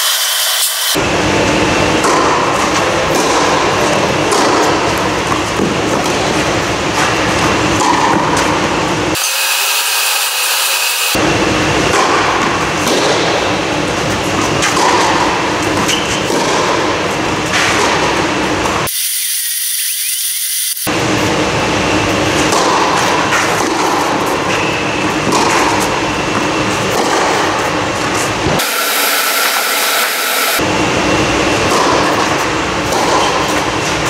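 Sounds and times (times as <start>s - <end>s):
blower machine drone: 0.0s - 14.3s, 20.6s - 34.0s.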